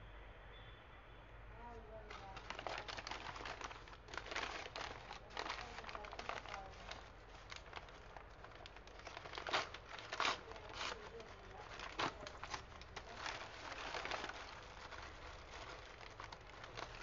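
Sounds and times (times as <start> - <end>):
paper bag crinkling: 1.9 - 17.0
paper ripping: 2.1 - 17.0.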